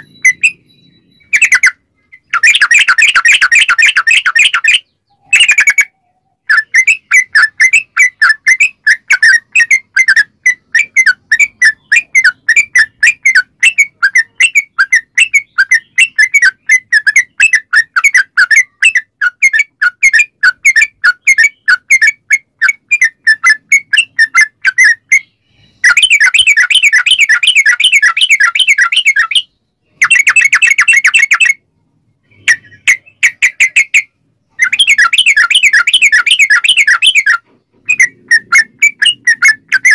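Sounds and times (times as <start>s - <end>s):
bird singing bubbly chirps: 0.0s - 31.6s, 32.2s - 39.9s.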